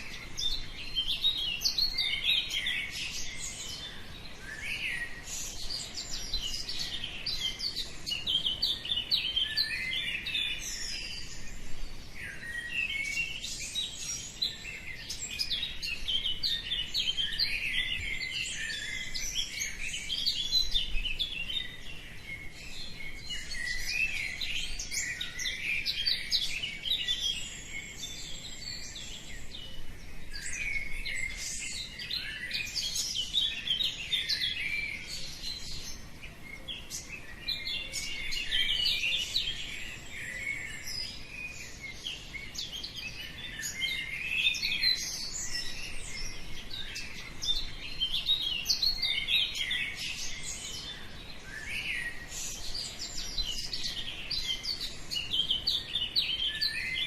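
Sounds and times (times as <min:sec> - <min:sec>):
small birds chirping and singing: 0:00.0 - 0:57.0.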